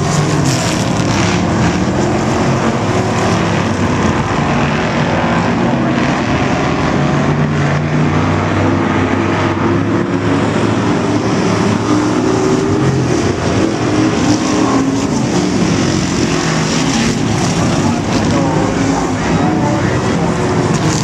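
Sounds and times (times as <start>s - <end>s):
race car engines droning: 0.0s - 21.0s.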